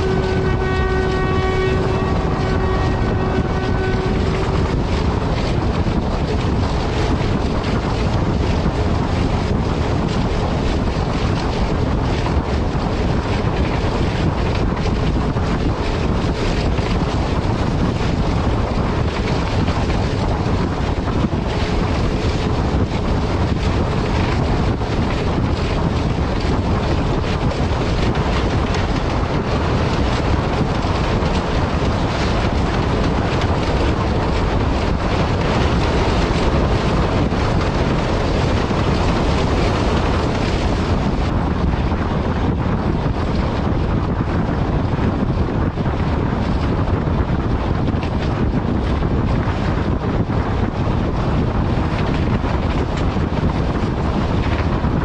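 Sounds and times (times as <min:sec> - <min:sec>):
diesel locomotive rumbling: 0:00.0 - 0:55.0
wind buffeting microphone: 0:00.0 - 0:55.0.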